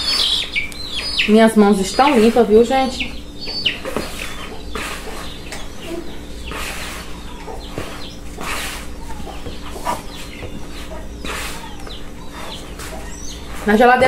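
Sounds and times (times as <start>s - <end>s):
chickens clucking: 0.0s - 14.0s
steady low hum: 0.0s - 14.0s.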